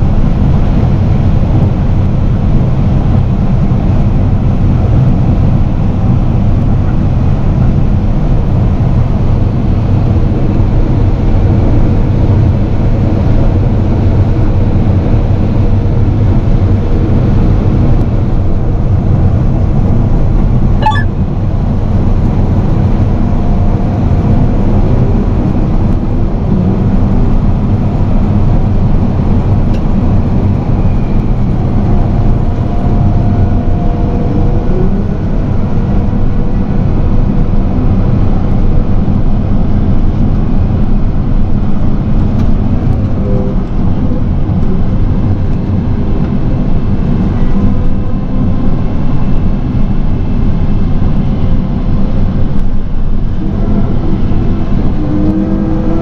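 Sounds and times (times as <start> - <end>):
heavy machinery engine drone: 0.0 - 56.0.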